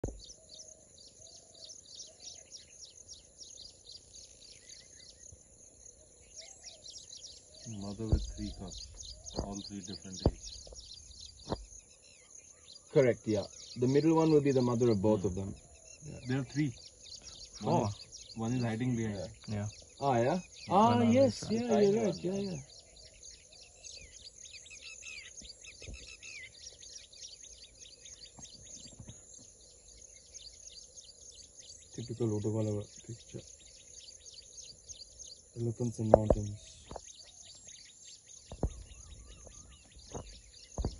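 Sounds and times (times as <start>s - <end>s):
wild birds chirping: 0.0s - 40.9s.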